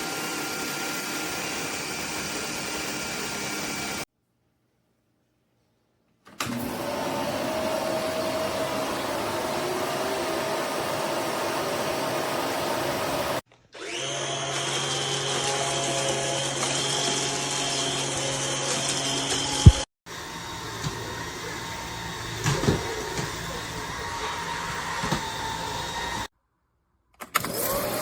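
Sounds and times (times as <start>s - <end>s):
vacuum cleaner running: 0.0s - 4.0s, 6.4s - 26.3s, 27.4s - 28.0s.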